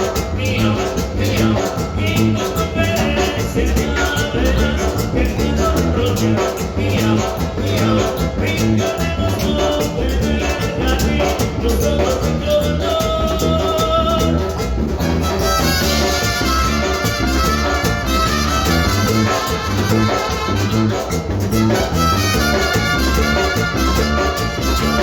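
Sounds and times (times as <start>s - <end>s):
band playing latin dance music: 0.0s - 25.0s.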